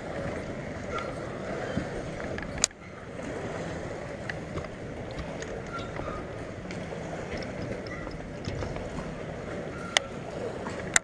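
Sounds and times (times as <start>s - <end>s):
lake water: 0.0s - 11.0s
wind: 0.0s - 11.0s.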